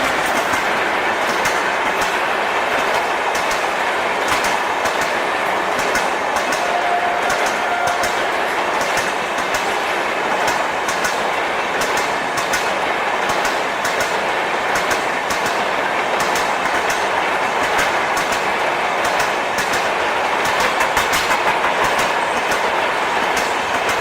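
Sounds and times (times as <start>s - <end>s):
sharp clicks over rail joints: 0.0s - 6.7s, 7.3s - 9.8s, 10.4s - 11.2s, 11.8s - 24.0s
train wheels rumbling on rails: 0.0s - 24.0s.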